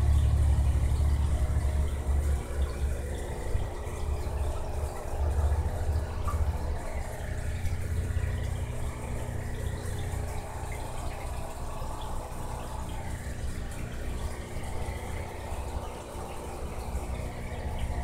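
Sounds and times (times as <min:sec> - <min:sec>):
low even hum: 0:00.0 - 0:18.0
water trickling: 0:00.0 - 0:18.0.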